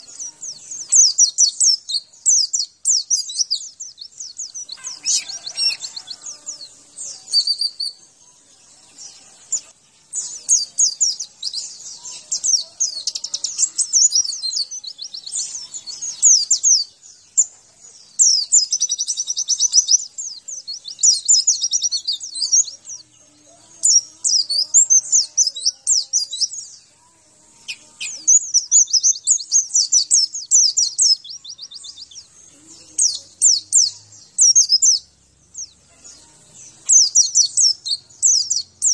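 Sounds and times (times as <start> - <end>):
bird chirping trills: 0.0 - 38.9.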